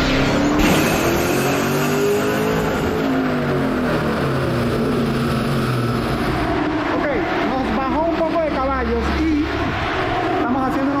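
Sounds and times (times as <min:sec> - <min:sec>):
car engine running loudly: 0:00.0 - 0:11.0.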